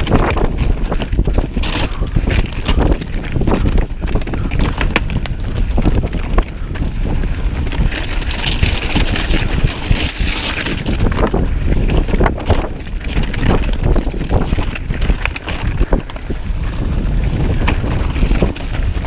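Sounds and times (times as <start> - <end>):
bike rattling on rocky trail: 0.0 - 19.0
wind buffeting microphone: 0.0 - 19.0.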